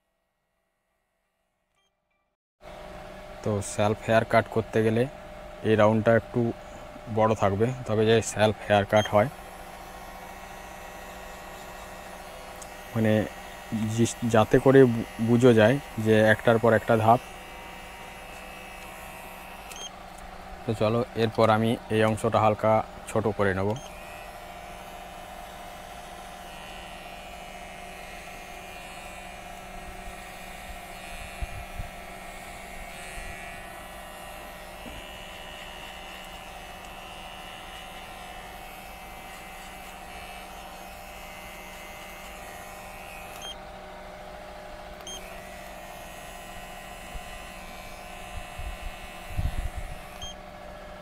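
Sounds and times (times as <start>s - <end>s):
hair clipper humming: 2.7s - 51.0s.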